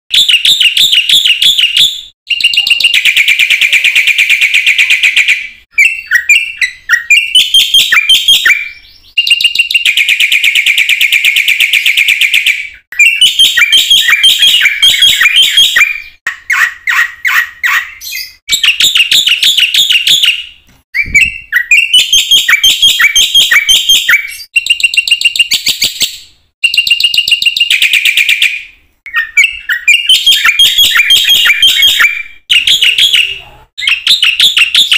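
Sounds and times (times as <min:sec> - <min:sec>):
bird chattering song: 0:00.1 - 0:34.9.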